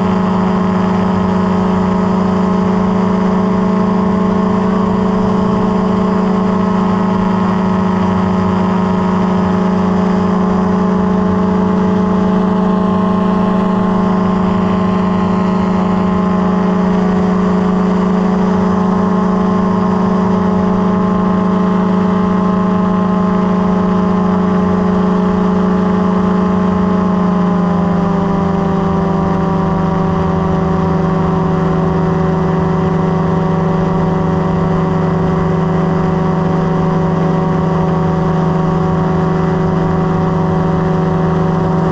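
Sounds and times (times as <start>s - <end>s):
propeller engine drone: 0.0s - 41.9s.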